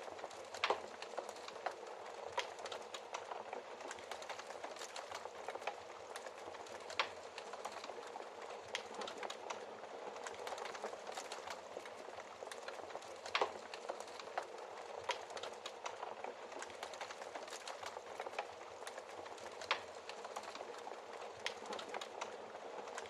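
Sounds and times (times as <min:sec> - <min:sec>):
fireplace fire crackling: 0:00.0 - 0:23.0.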